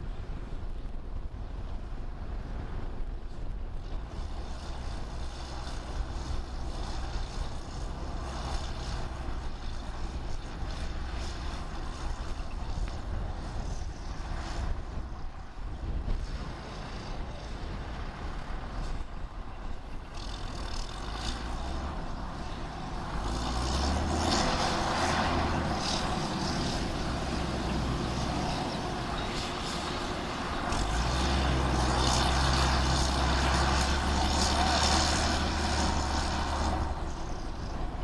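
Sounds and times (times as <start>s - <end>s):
diesel engine of heavy machinery: 0.0s - 38.0s.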